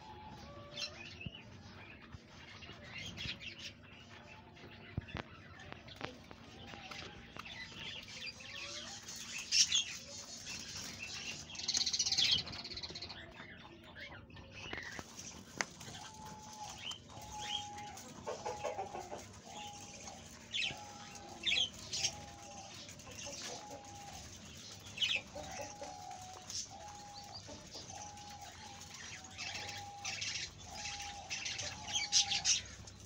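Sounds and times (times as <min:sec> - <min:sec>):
birds chirping and calling: 0:00.0 - 0:33.0.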